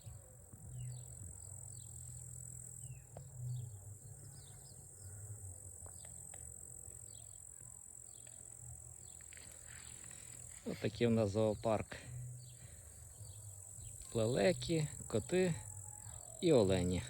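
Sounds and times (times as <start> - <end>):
insects chirring: 0.0 - 17.0
short insect chirps: 0.8 - 17.0.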